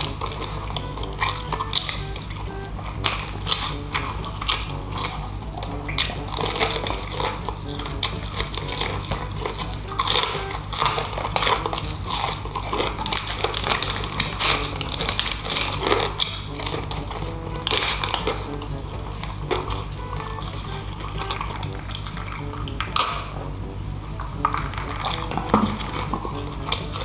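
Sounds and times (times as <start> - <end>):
chewing and lip-smacking: 0.0 - 27.0
soft background music: 0.0 - 27.0.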